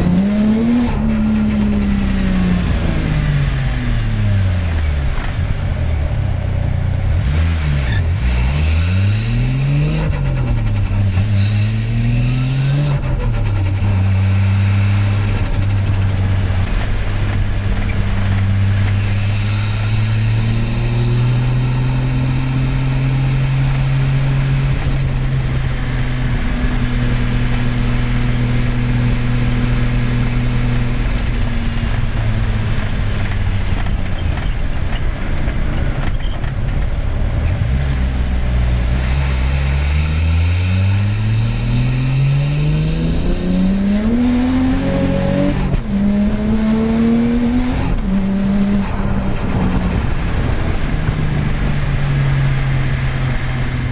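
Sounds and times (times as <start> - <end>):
car engine droning: 0.0 - 53.9.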